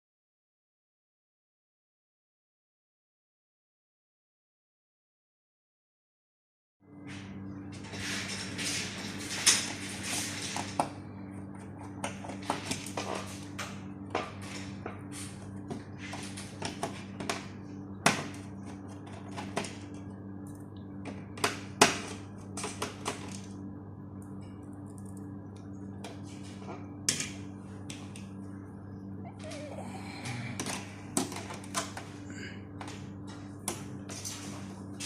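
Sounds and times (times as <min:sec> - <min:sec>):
low electrical hum: 0:06.8 - 0:35.0.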